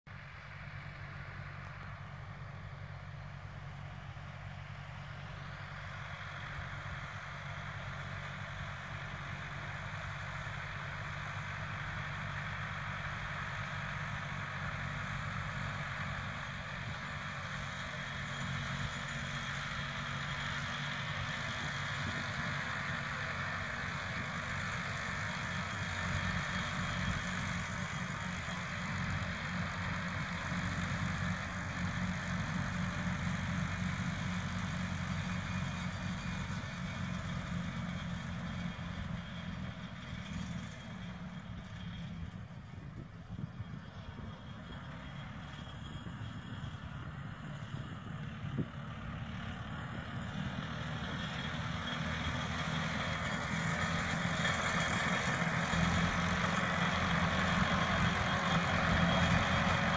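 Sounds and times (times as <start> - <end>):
tractor diesel engine running: 0.1 - 59.9.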